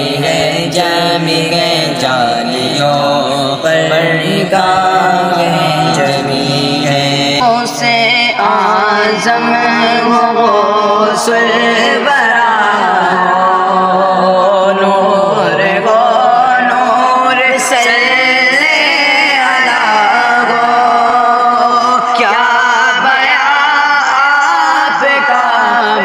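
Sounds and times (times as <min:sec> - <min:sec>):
young male voices singing: 0:00.0 - 0:26.0.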